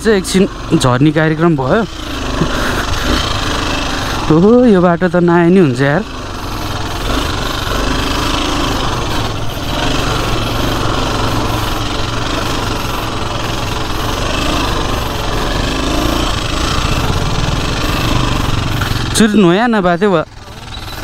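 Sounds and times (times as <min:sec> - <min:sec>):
dirt bike engine chugging: 0:00.0 - 0:21.0.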